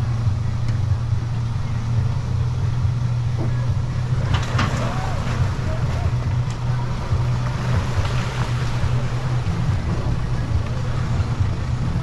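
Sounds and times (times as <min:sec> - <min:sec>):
motorboat engine droning: 0:00.0 - 0:12.0.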